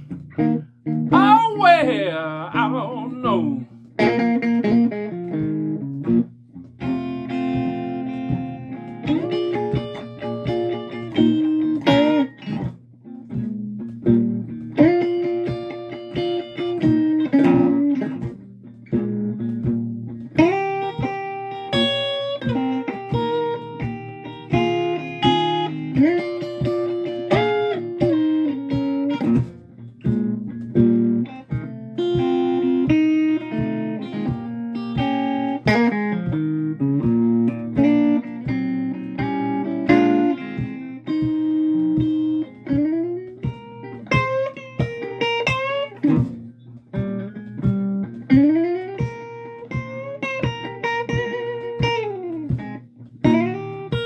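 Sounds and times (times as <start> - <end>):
electric guitar blues lead: 0.0 - 54.0.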